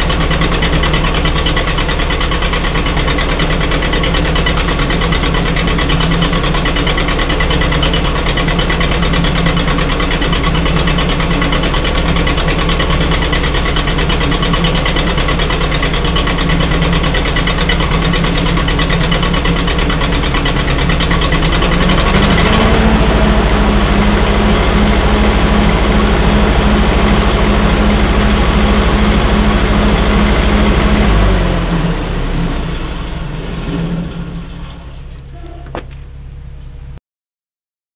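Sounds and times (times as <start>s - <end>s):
gasoline engine running: 0.0s - 37.0s.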